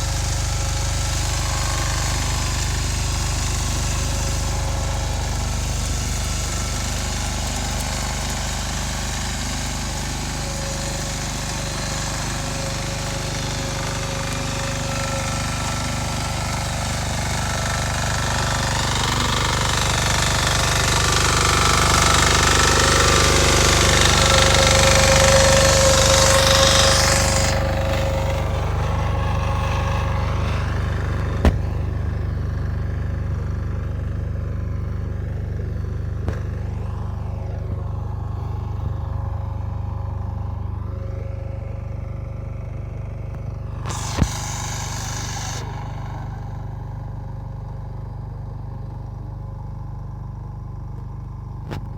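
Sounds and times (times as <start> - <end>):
tiller clatter: 0.0 - 49.3
tractor engine running: 0.0 - 51.9.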